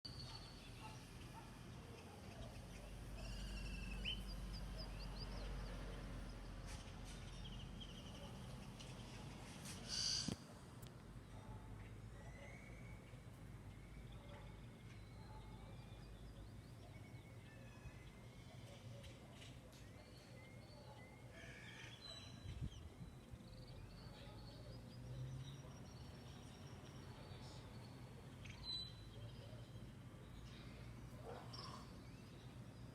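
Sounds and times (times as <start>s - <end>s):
birds singing: 0.1s - 10.4s, 11.3s - 32.9s.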